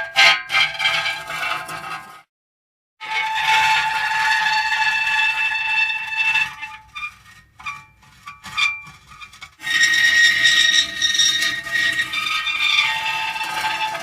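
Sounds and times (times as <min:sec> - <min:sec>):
metal creaking and squealing: 0:00.1 - 0:02.2, 0:03.0 - 0:14.0.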